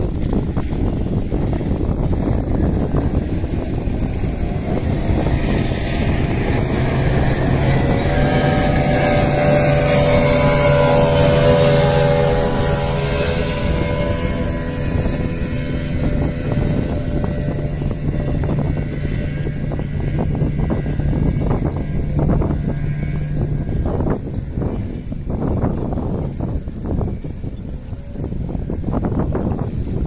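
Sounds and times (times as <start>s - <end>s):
speedboat engine passing: 0.0s - 30.0s
wind noise on microphone: 0.0s - 30.0s.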